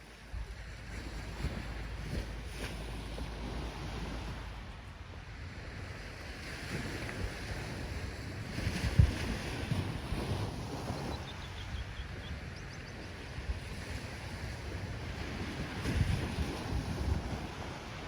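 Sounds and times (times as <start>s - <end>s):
ocean waves breaking: 0.0s - 18.0s
wind buffeting microphone: 0.0s - 18.0s.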